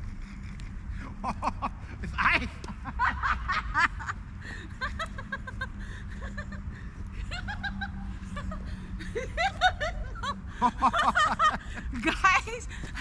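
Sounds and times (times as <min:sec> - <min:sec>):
person laughing: 0:01.1 - 0:06.6, 0:07.3 - 0:12.2.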